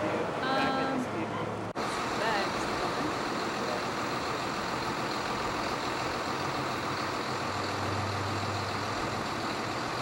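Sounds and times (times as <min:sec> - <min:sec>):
road vehicle engine hum: 0:00.0 - 0:10.0.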